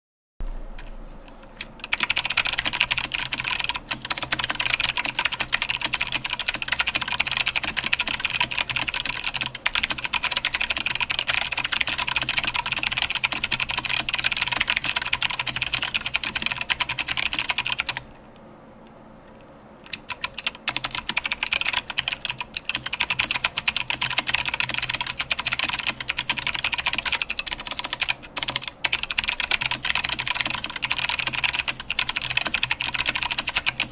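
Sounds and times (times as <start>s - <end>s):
typing on mechanical keyboard: 1.6s - 18.0s, 19.9s - 33.9s.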